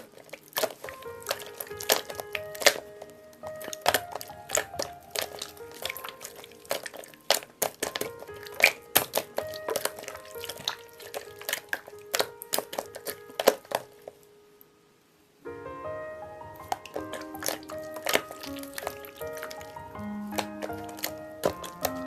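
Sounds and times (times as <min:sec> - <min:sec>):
crunchy slime crackling clicks: 0:00.0 - 0:14.2, 0:16.6 - 0:22.0
gentle background music: 0:00.0 - 0:14.8, 0:15.4 - 0:22.0.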